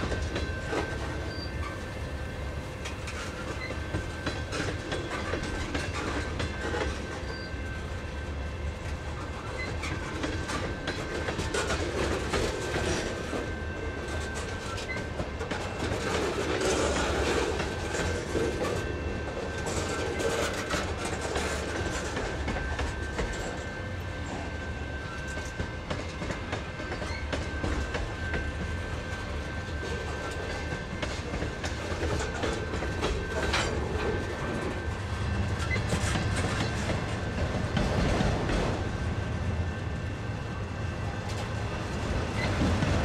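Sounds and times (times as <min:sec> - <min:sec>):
steel wheels rumbling on rail: 0:00.0 - 0:43.0.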